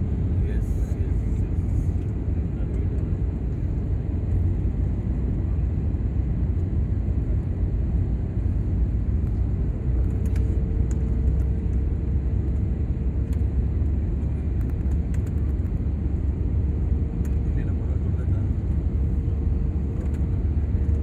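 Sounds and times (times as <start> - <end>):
aircraft rumble: 0.0 - 21.0.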